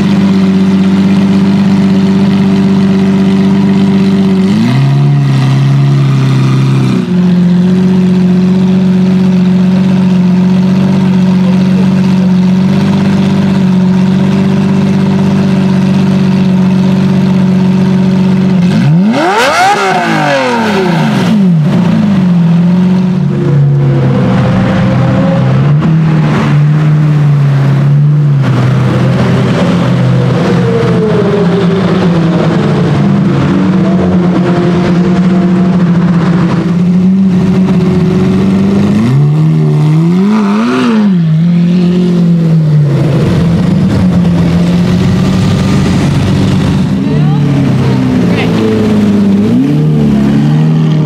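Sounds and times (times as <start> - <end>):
sports car engine idling and revving: 0.0 - 51.0.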